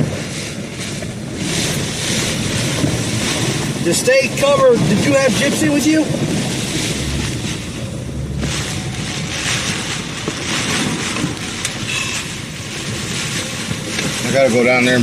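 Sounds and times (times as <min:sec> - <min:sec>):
low thunder rumble: 0:00.0 - 0:15.0
torrential rain pouring: 0:00.0 - 0:15.0
wind: 0:00.0 - 0:15.0.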